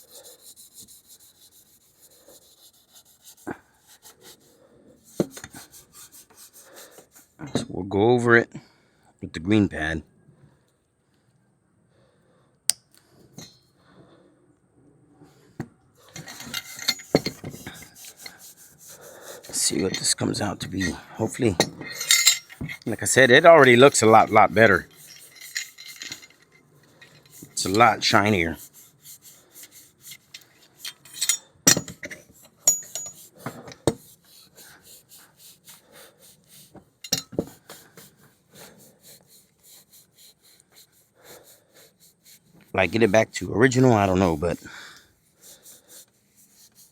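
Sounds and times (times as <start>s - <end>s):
scuff pad scrubbing metal: 0.0s - 7.4s, 16.1s - 46.9s.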